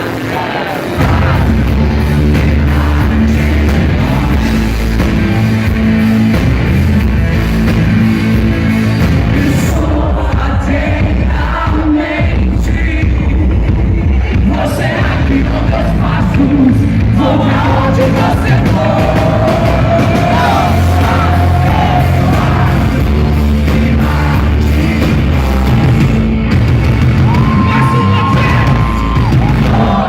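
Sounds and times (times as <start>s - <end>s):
live rock band playing: 0.0s - 11.4s, 13.4s - 30.0s
crowd noise: 0.0s - 30.0s.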